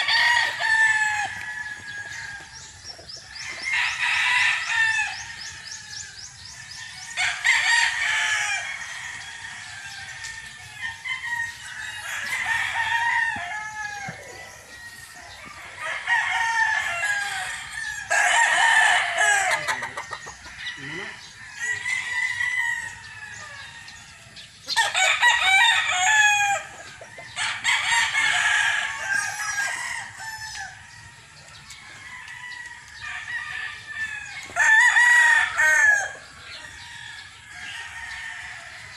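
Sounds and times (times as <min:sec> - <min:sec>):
roosters crowing: 0:00.0 - 0:38.9.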